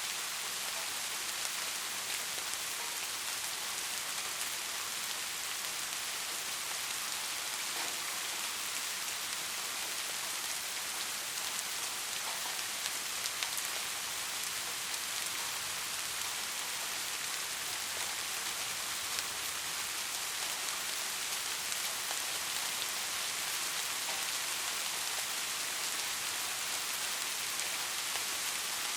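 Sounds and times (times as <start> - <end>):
soft rain falling: 0.0 - 28.9.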